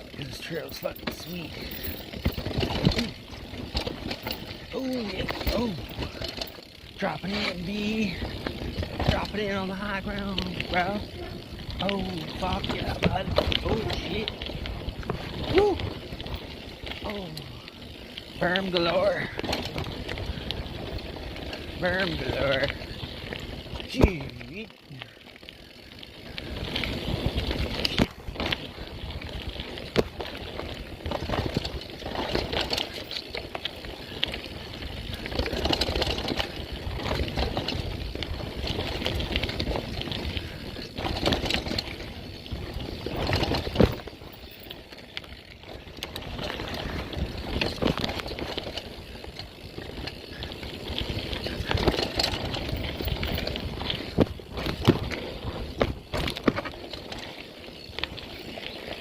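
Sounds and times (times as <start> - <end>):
bike rattling over bumps: 0.0 - 59.0
bike tyres on dirt: 0.0 - 59.0.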